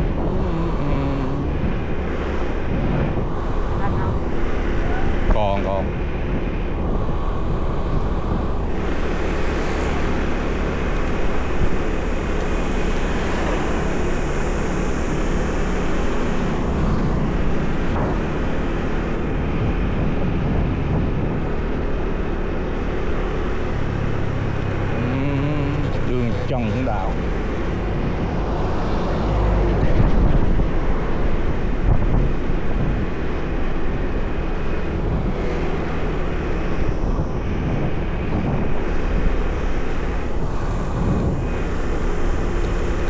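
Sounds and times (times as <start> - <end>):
vehicle engine hum: 0.0 - 43.0
wind and road noise: 0.0 - 43.0.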